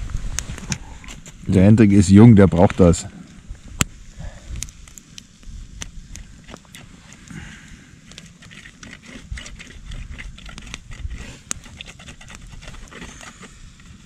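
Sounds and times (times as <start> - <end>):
wood crackling and clicking: 2.6 - 14.0.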